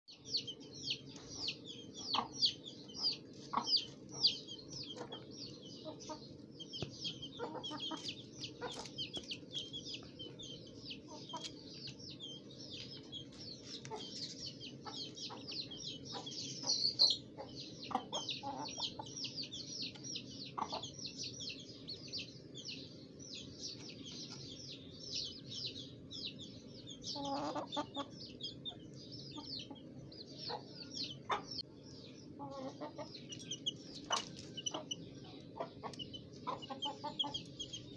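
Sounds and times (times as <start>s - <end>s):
chickens clucking: 0.1s - 37.9s
fast high-pitched chirping: 0.1s - 37.9s.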